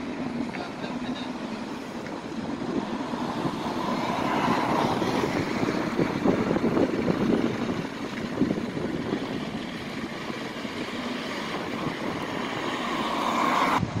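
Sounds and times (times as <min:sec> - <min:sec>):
bus engine running: 0:00.0 - 0:14.0
road traffic noise: 0:00.0 - 0:14.0.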